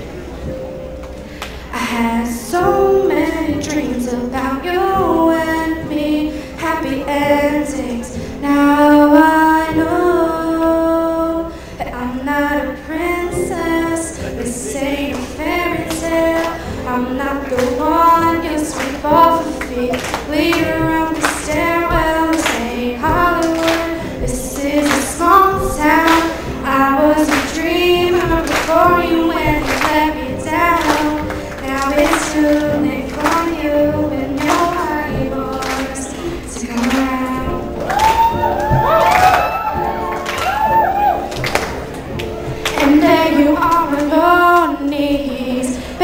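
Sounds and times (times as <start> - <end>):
woman singing into microphone: 1.6 - 41.5, 42.2 - 46.0.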